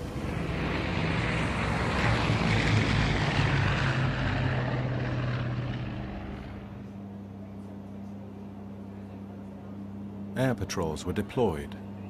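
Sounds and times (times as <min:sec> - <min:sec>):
airplane engines flying past: 0:00.0 - 0:12.0.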